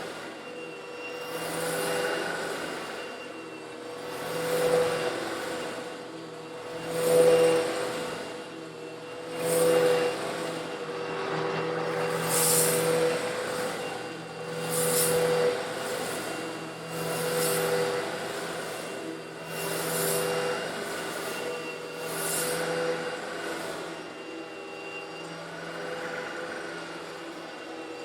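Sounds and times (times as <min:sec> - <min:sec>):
vacuum cleaner motor hum: 0:00.0 - 0:28.0.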